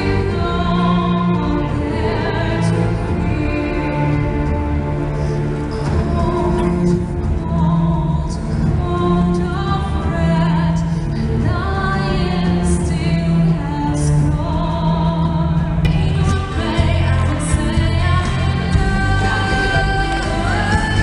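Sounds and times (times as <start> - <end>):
instrumental accompaniment: 0.0 - 21.0
woman singing into microphone: 0.0 - 21.0.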